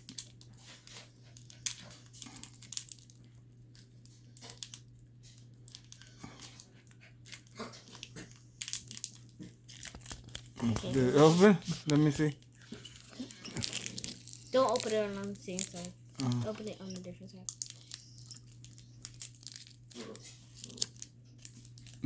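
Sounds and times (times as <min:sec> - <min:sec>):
packet crinkling and crackling: 0:00.0 - 0:22.0.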